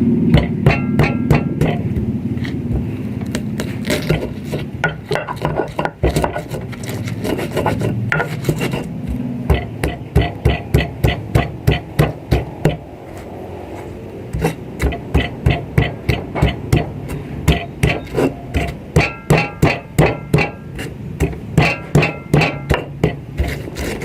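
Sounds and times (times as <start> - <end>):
steady low hum: 0.0 - 24.0
knocking and rubbing strokes: 0.3 - 24.0.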